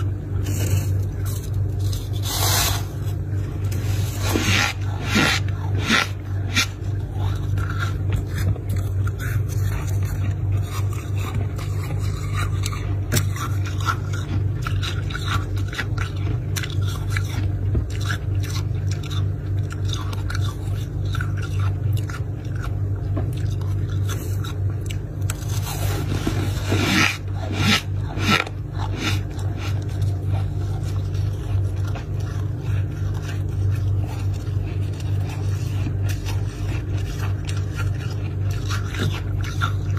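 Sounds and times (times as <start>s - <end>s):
crunching and scraping frost: 0.0s - 21.7s, 23.5s - 39.9s
low hum: 0.0s - 39.9s.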